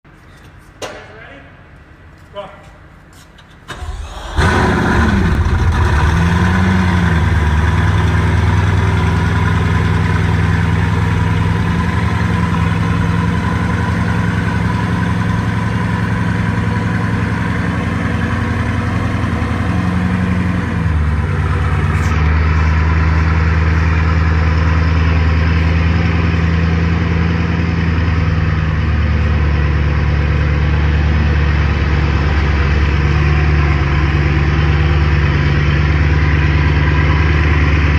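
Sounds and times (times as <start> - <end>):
car engine idling: 3.8 - 37.9.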